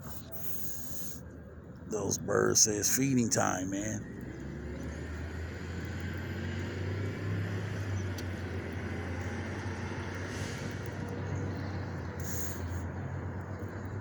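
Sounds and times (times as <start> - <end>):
car engine humming: 0.0 - 14.0
faint road noise: 0.0 - 14.0.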